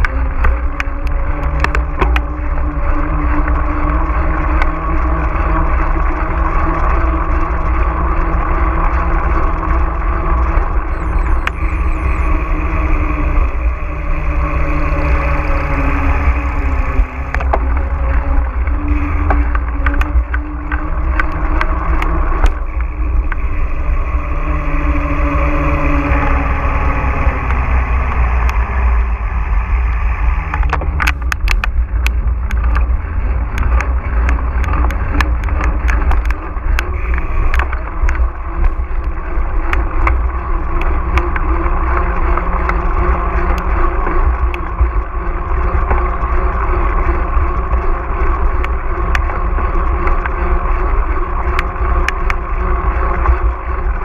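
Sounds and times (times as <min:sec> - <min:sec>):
bike clicks and rattles: 0:00.0 - 0:10.9, 0:12.3 - 0:29.2, 0:30.2 - 0:54.0
wind and tyre rumble: 0:00.0 - 0:54.0.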